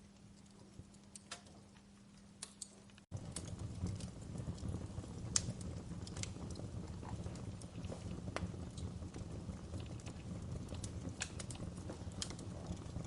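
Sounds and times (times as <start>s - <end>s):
low rumble of flames: 0.0s - 13.0s
burning logs popping: 0.2s - 13.0s.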